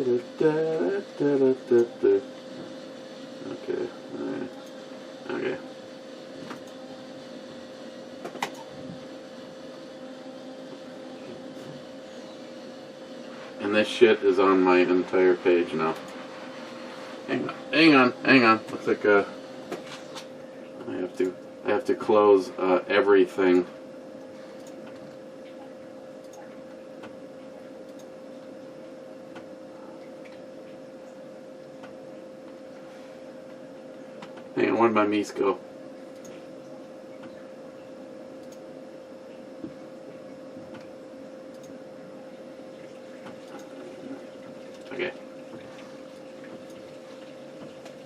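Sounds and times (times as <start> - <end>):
steady background hum: 0.0 - 48.0.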